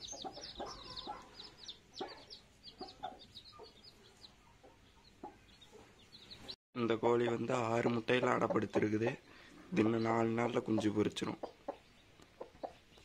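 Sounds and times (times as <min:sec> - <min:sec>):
hen clucking: 0:00.0 - 0:06.6, 0:07.5 - 0:13.0
chicks peeping: 0:00.0 - 0:13.0.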